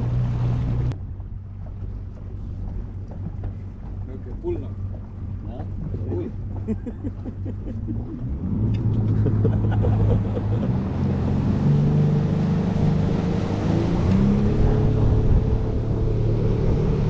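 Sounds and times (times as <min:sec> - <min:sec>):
motorboat engine running: 0:00.0 - 0:17.0
rushing water: 0:00.0 - 0:17.0.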